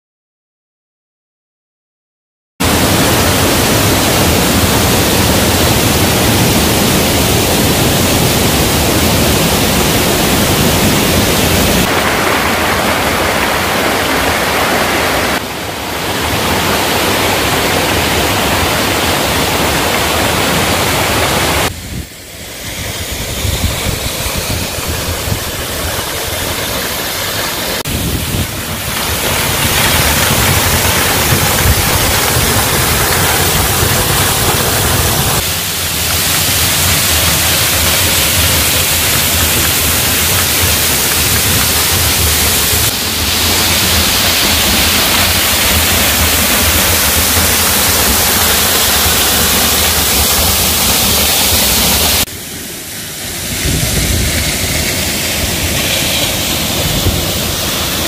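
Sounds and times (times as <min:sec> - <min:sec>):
waterfall rushing and splashing: 0:02.6 - 0:58.0.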